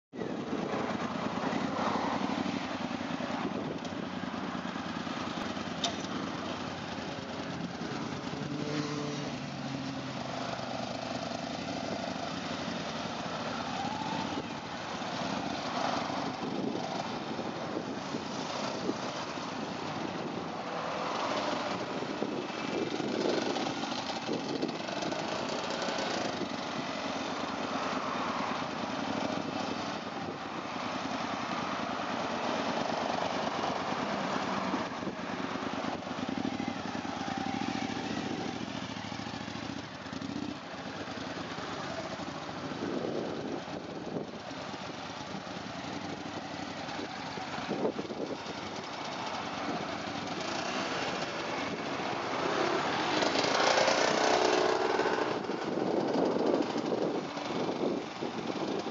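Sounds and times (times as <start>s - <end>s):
outdoor background noise: 0.1s - 58.9s
motorcycle engines revving: 0.2s - 58.9s.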